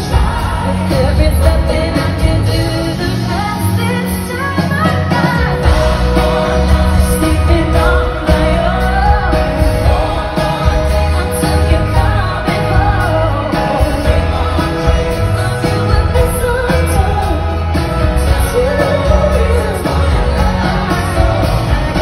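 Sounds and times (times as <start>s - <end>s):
backing singers: 0.0s - 22.0s
band with heavy bass: 0.0s - 22.0s
woman singing pop song: 0.0s - 22.0s.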